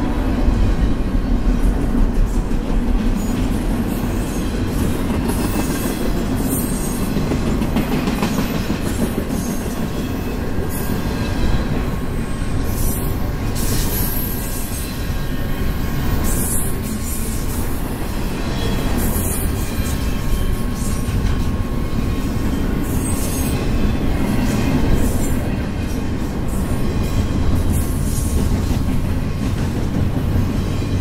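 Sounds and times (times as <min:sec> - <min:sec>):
freight train wheels rumbling on rail: 0:00.0 - 0:31.0.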